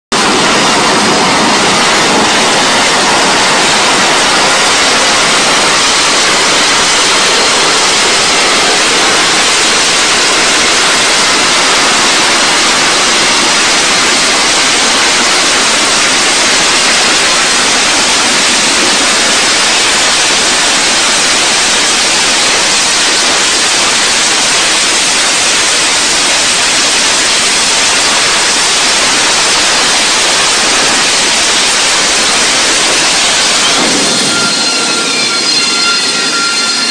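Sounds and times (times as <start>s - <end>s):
jet engine roaring at hover: 0.0s - 36.9s.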